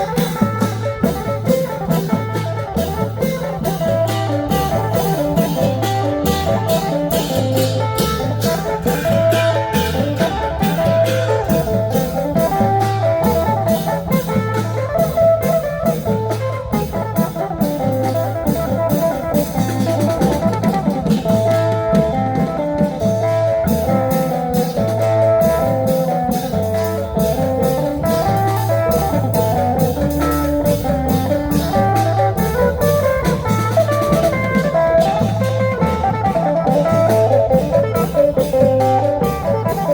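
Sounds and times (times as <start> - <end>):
plucked melody: 0.0 - 39.9
pulsing drum beat: 0.0 - 39.9
upbeat live band music: 0.0 - 39.9.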